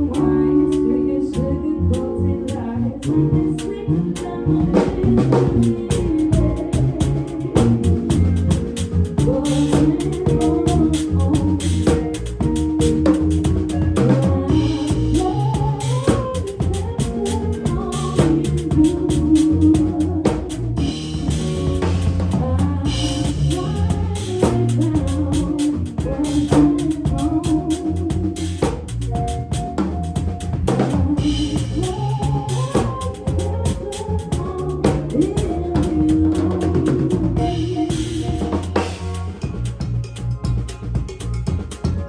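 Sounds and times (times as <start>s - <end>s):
instrumental band music: 0.0s - 42.0s
drum kit beat: 2.5s - 42.0s.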